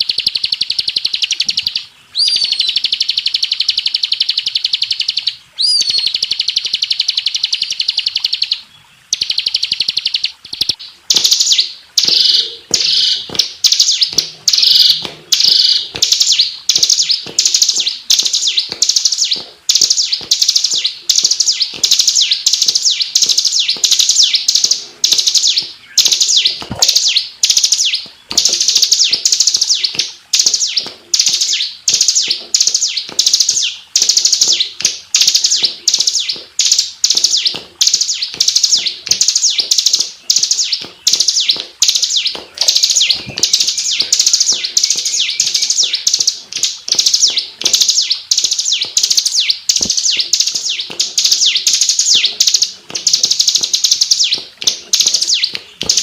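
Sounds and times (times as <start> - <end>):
bird singing high trills: 0.0 - 56.0.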